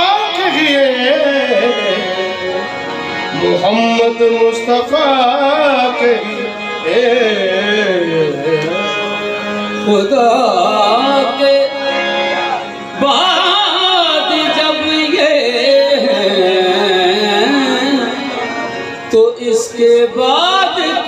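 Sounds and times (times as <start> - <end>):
harmoniums: 0.0 - 21.0
men singing devotional song: 0.0 - 21.0.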